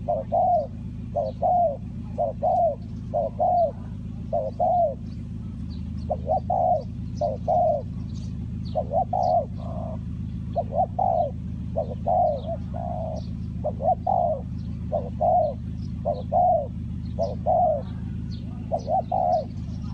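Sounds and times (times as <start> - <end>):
dove cooing: 0.0 - 19.9
small birds chirping: 0.0 - 19.9
steady low hum: 0.0 - 19.9.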